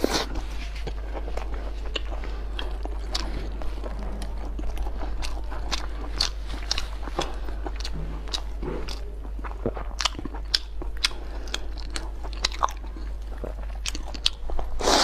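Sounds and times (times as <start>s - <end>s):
close chewing crunches: 0.0s - 15.0s.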